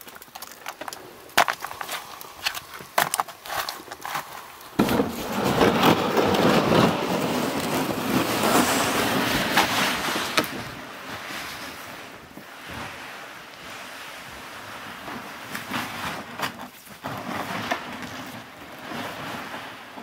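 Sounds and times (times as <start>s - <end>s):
plastic sled scraping over snow: 0.0s - 20.0s.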